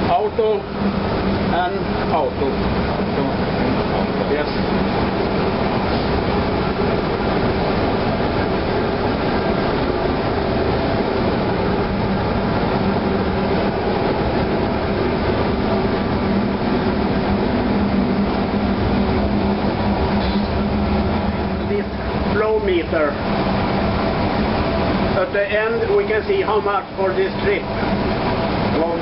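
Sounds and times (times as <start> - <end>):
engine-room machinery drone: 0.0 - 29.0.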